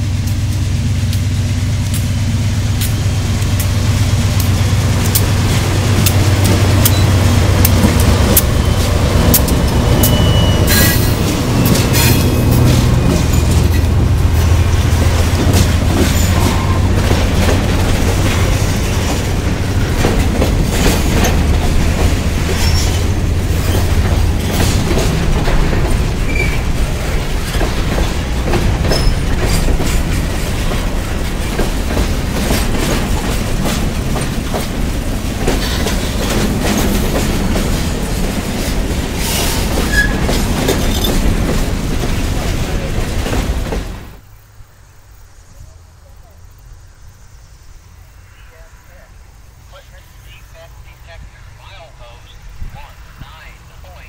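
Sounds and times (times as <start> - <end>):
freight car wheel rumble: 0.0 - 44.2
diesel locomotive engine drone: 0.0 - 54.0.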